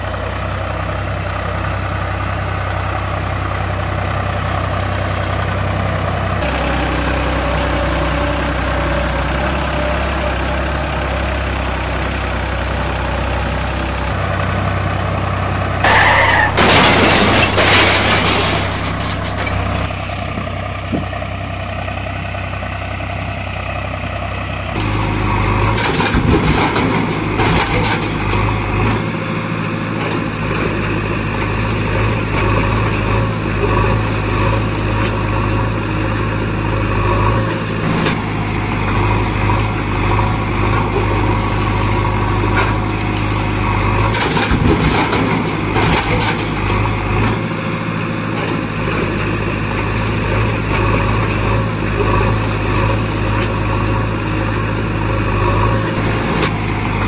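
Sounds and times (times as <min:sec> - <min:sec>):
heavy engine idling: 0:00.0 - 0:57.0.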